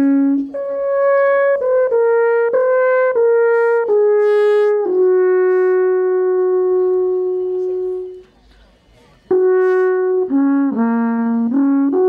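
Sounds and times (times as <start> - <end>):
alphorn playing slow melody: 0.0 - 8.4, 9.3 - 12.0.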